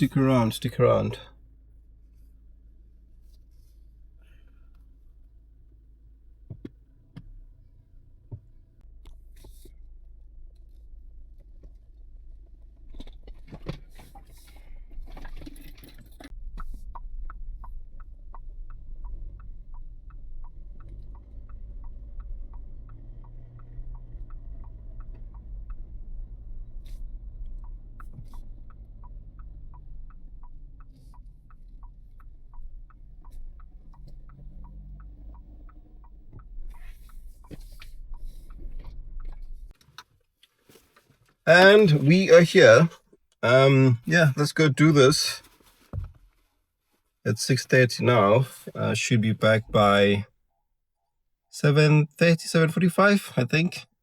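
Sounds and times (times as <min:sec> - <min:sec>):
car engine low rumble: 0:00.0 - 0:39.8, 0:41.5 - 0:45.4, 0:47.3 - 0:50.2.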